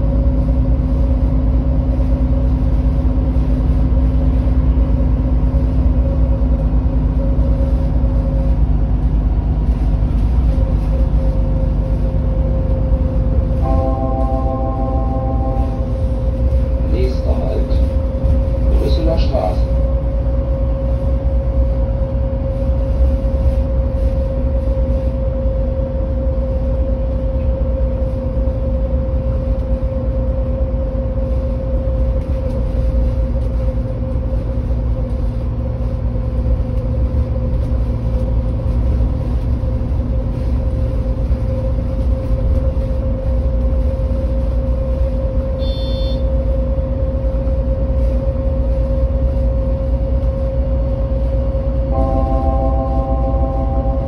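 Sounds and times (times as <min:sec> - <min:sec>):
bus engine idling: 0:00.0 - 0:54.0
mid-pitched hum: 0:00.0 - 0:54.0.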